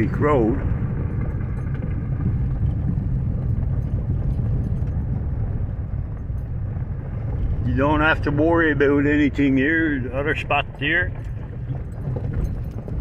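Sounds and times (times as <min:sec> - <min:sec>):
car engine running: 0:00.0 - 0:13.0
tyres rumbling on gravel: 0:00.0 - 0:13.0.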